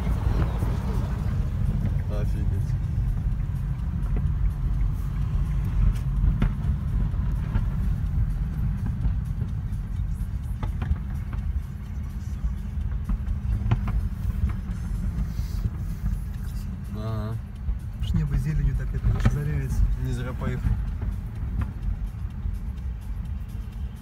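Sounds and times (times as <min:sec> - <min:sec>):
car cabin rumble: 0:00.0 - 0:24.0.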